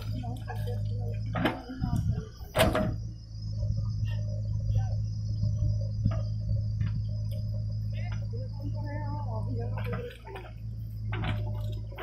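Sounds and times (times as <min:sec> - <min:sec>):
diesel engine running: 0:00.0 - 0:12.0
insects chirring: 0:00.0 - 0:12.0.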